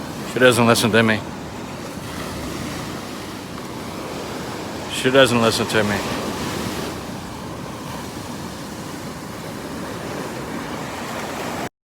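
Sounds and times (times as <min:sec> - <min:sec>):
heavy surf washing on beach: 0:00.0 - 0:11.7
wind buffeting microphone: 0:01.0 - 0:11.7.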